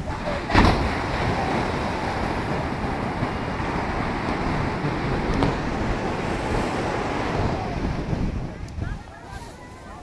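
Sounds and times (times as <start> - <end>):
surf breaking on beach: 0.0 - 10.0
wind buffeting microphone: 0.0 - 10.0.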